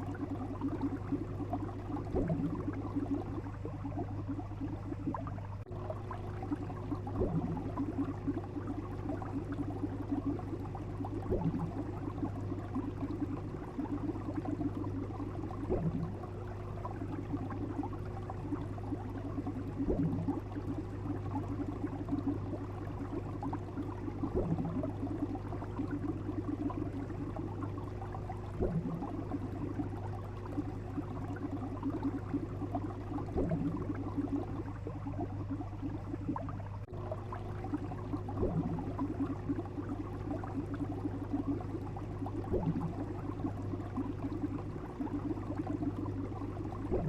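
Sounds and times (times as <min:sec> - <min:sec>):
soft gulping pop: 0:00.0 - 0:47.0
steady low hum: 0:00.0 - 0:47.0
water bubbling: 0:00.0 - 0:47.0.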